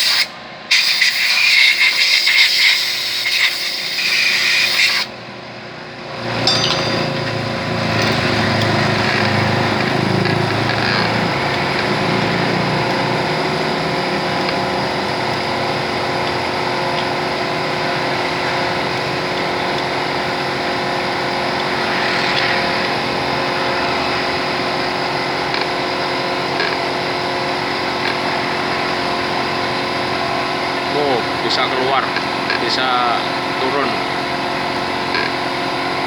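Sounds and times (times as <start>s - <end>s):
machine motor droning: 1.4s - 36.0s.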